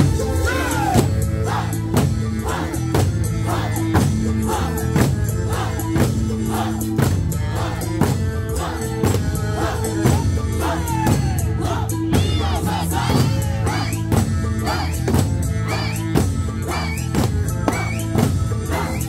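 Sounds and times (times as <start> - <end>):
barrel drums and hand drums: 0.0 - 19.0.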